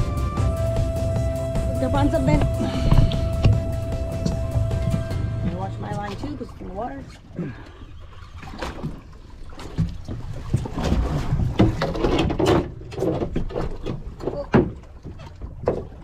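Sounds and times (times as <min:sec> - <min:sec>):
water splashes: 0:01.0 - 0:16.0
water slapping against boat hull: 0:01.9 - 0:07.4, 0:08.0 - 0:16.0.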